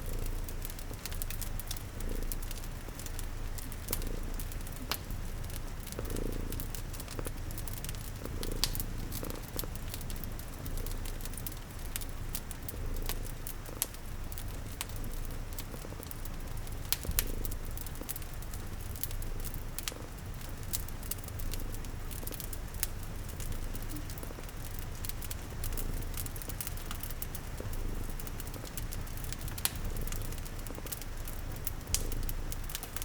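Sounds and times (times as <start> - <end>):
cat purring: 0.0 - 33.0
rain pattering: 0.0 - 33.0
wood fire crackling and popping: 0.0 - 33.0.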